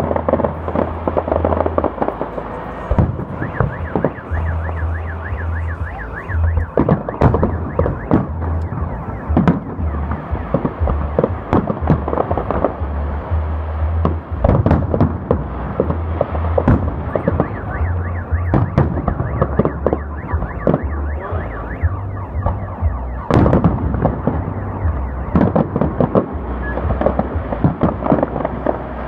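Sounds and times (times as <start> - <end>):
fireworks bangs and crackles: 0.0 - 29.0
car alarm warbling: 0.2 - 12.8, 16.8 - 28.5.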